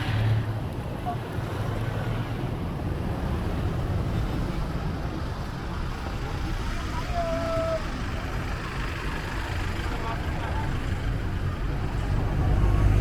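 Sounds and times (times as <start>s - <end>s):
distant traffic: 0.0s - 13.0s.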